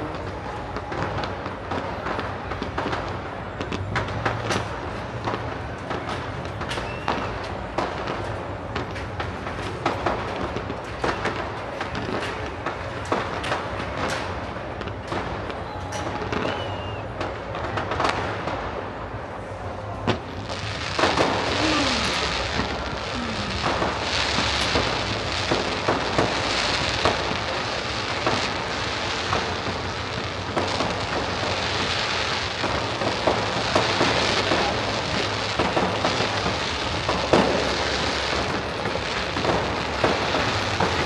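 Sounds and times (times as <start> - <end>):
fireworks crackling hiss: 0.0 - 19.4, 20.1 - 41.0
fireworks bangs: 0.0 - 41.0.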